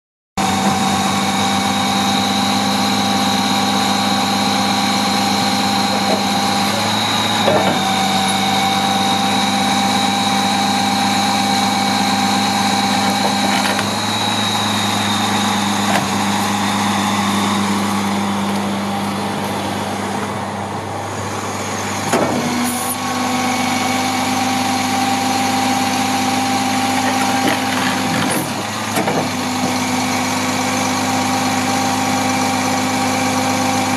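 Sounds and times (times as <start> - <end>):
diesel truck engine running: 0.4 - 33.9
hydraulic whine: 0.4 - 33.9.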